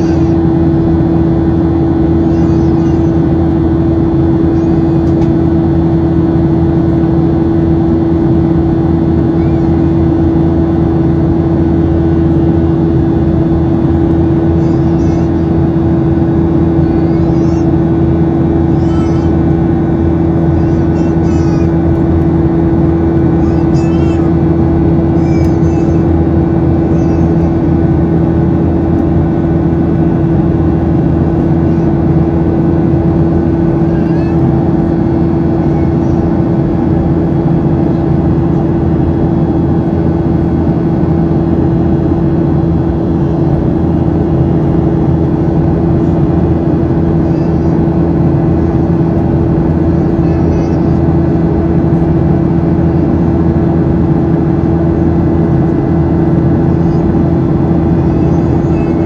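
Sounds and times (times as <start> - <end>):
aircraft engine hum in cabin: 0.0 - 59.0.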